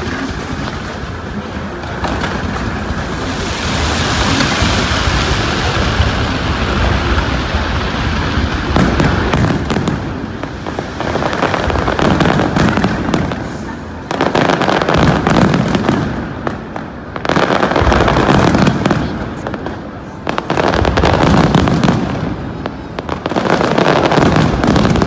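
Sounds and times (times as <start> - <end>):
fireworks bursting and crackling: 0.0 - 25.0.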